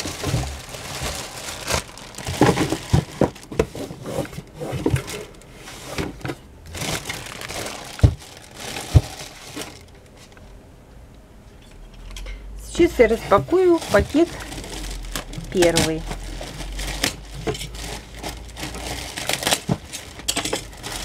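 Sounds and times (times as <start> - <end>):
plastic bags crinkling: 0.0 - 10.4, 13.1 - 21.0.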